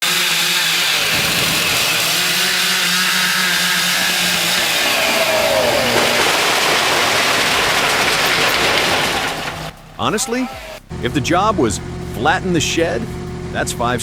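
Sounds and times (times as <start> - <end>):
chainsaw cutting: 0.0 - 14.0.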